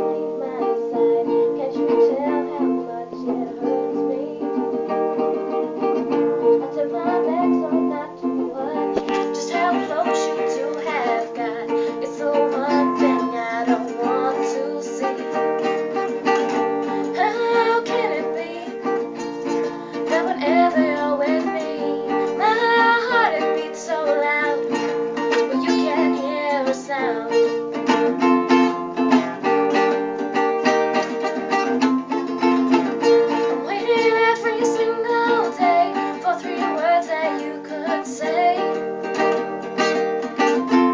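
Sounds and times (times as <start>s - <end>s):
woman singing: 0.0s - 28.2s, 32.4s - 39.2s
strummed acoustic string instrument: 0.0s - 40.9s.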